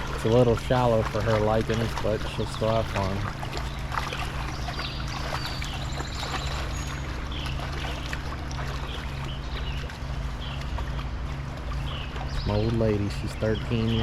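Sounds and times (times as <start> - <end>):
dog splashing in water: 0.0 - 14.0
steady low hum: 0.0 - 14.0
stream water trickling: 0.0 - 14.0.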